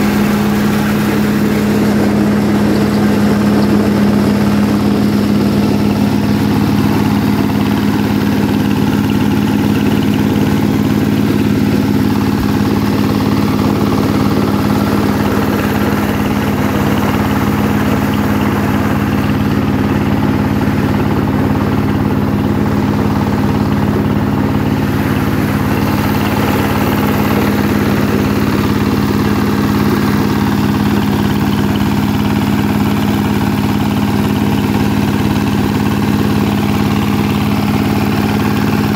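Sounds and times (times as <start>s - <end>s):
corn sheller engine drone: 0.0s - 38.9s.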